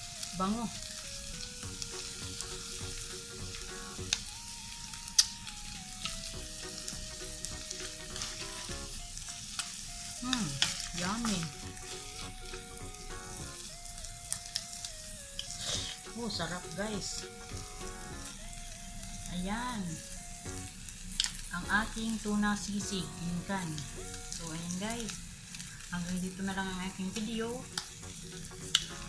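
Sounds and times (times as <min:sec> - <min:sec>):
faint background music: 0:00.0 - 0:29.0
food sizzling in a pan: 0:00.0 - 0:29.0.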